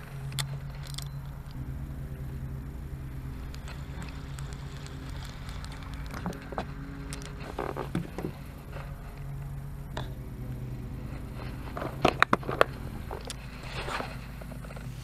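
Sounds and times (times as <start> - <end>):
fishing rod and reel clicking: 0.0 - 1.6, 3.4 - 15.0
steady low hum: 0.0 - 15.0.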